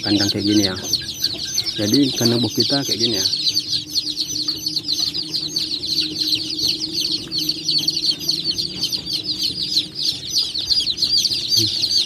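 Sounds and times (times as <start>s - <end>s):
chicks peeping loudly: 0.0s - 12.0s
steady low hum: 0.0s - 12.0s.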